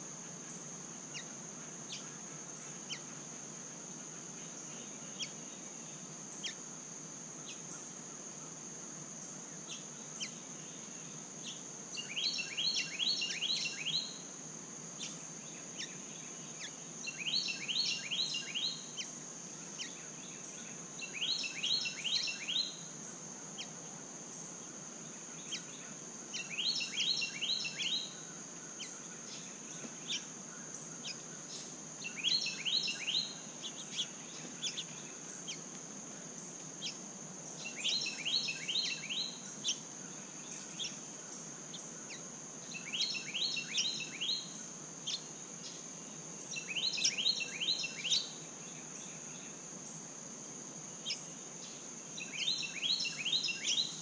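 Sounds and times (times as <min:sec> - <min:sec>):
high insect drone: 0:00.0 - 0:54.0
songbird singing: 0:00.0 - 0:54.0.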